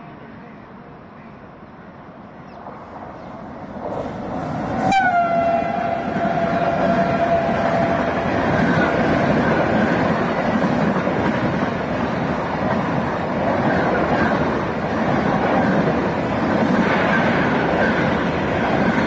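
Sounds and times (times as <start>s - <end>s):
train coaches passing at speed: 0.0s - 19.0s.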